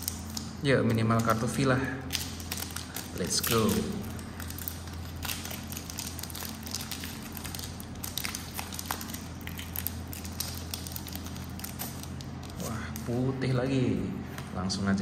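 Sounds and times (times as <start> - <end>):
foil wrapper crinkling and tearing: 0.0 - 13.2.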